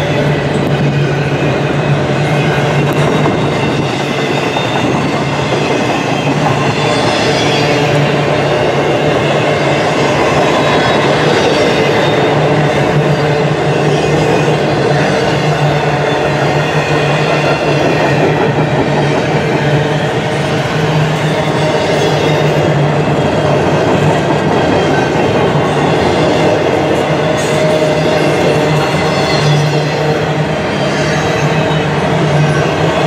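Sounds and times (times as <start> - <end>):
steel wheels rolling on rail: 0.0 - 33.0.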